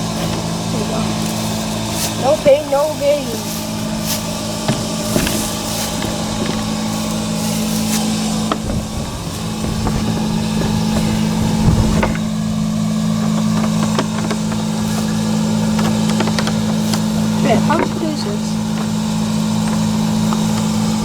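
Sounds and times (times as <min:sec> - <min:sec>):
handling knocks and rustles: 0:00.0 - 0:21.0
motor humming steadily: 0:00.0 - 0:21.0.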